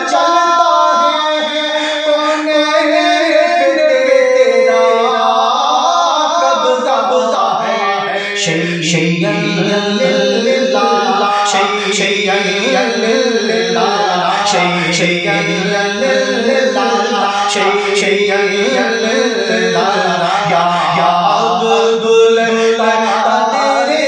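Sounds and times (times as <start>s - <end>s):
man singing unaccompanied: 0.0s - 24.0s.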